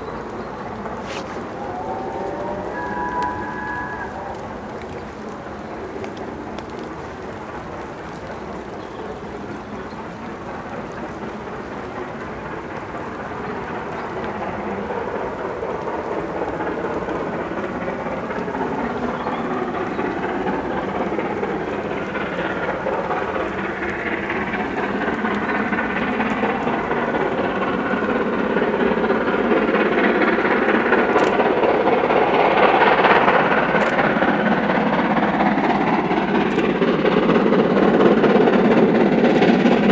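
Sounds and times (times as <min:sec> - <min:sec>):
steam locomotive exhaust roar: 0:00.0 - 0:39.9.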